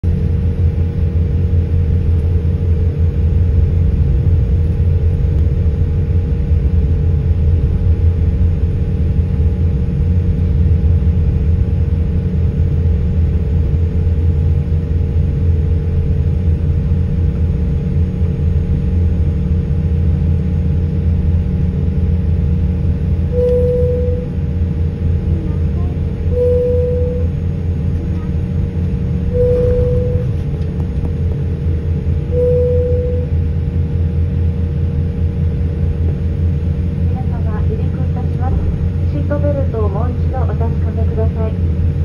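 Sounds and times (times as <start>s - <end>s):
jet engines rumbling in cabin: 0.0s - 42.0s
steady engine hum: 0.0s - 42.0s.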